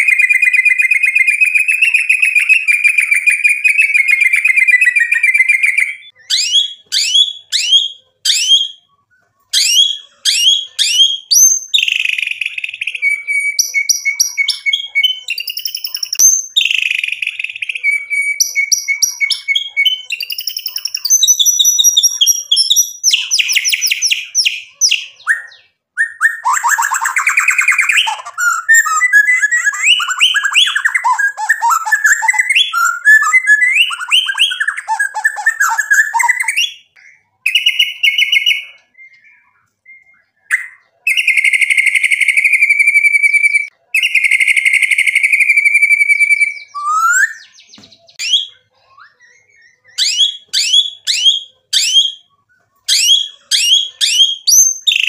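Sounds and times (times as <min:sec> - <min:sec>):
sharp downslurred whistles: 0:00.0 - 0:08.9, 0:09.5 - 0:55.0
songbird singing: 0:00.0 - 0:55.0.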